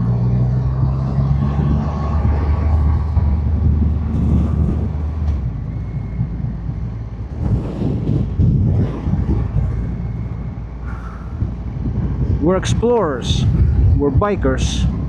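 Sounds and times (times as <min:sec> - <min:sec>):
motorcycle engine running: 0:00.0 - 0:13.8
wind buffeting microphone: 0:00.0 - 0:15.0.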